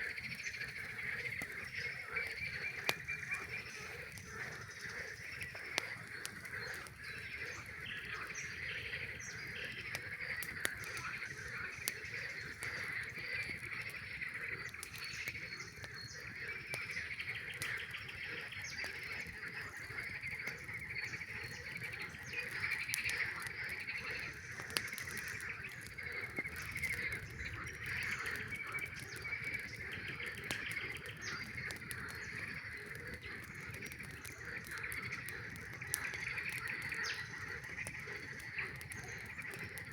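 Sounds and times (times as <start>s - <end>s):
campfire crackling: 0.0s - 39.9s
chorus of frogs calling: 0.0s - 39.9s.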